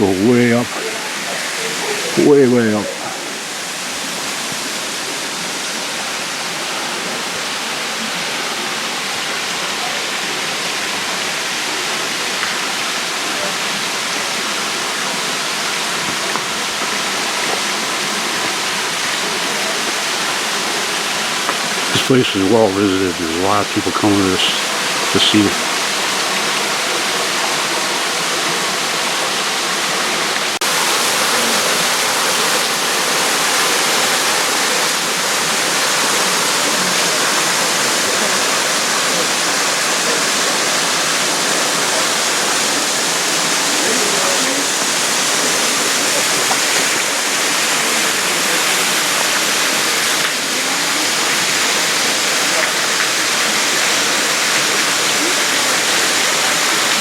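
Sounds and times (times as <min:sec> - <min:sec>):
waterfall splashing: 0:00.0 - 0:57.0.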